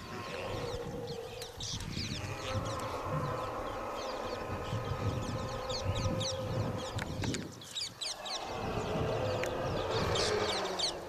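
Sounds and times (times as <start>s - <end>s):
birds chirping downward sweeps: 0.0s - 11.0s.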